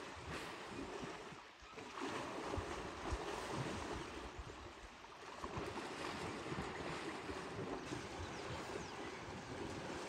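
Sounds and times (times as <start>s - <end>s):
water sloshing and splashing: 0.0s - 10.0s
wind rumble on microphone: 0.0s - 10.0s.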